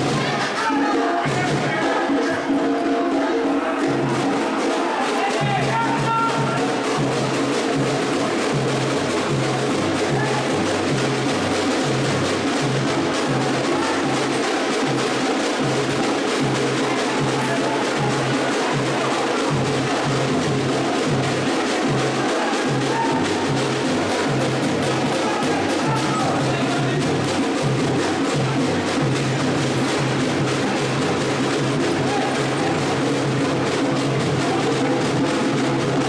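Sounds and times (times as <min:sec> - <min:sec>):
percussion: 0:00.0 - 0:36.0.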